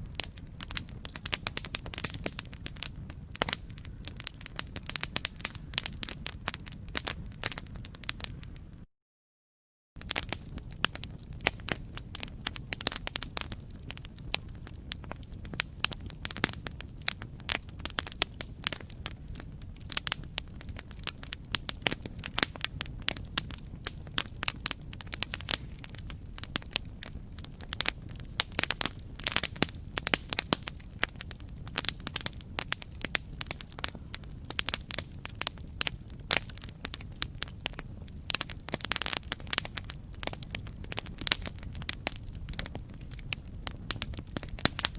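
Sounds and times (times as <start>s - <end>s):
campfire crackling: 0.0s - 8.8s, 10.0s - 44.9s.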